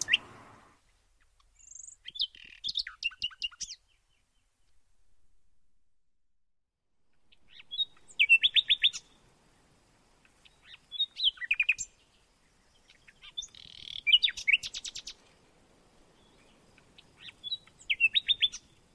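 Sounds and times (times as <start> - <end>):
songbird chirping: 0.0 - 5.4, 7.1 - 18.9.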